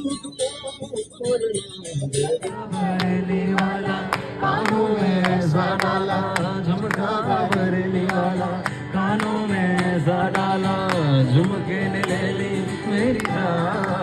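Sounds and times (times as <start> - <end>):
person singing: 2.4 - 14.0.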